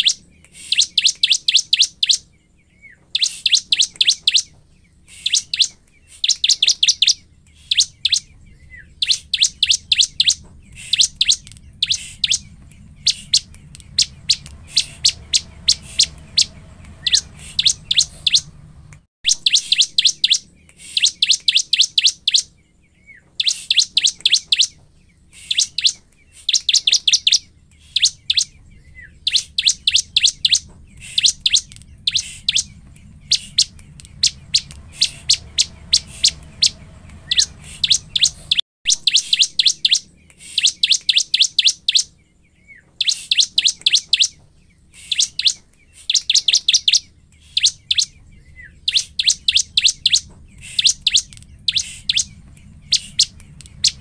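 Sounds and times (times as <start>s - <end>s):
bird singing high sharp notes: 0.0s - 54.0s.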